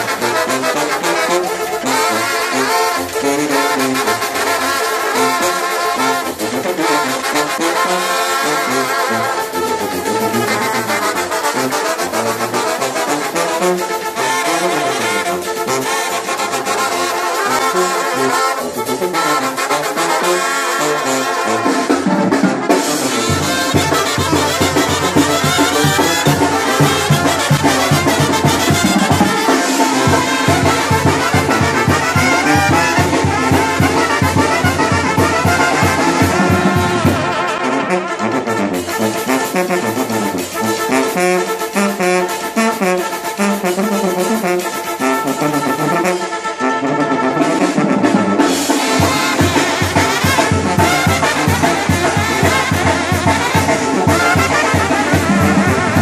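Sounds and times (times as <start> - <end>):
brass band music: 0.0 - 56.0.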